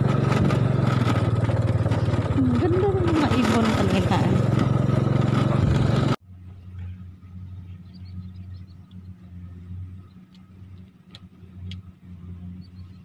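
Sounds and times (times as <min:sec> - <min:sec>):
engine running low hum: 0:00.0 - 0:13.0.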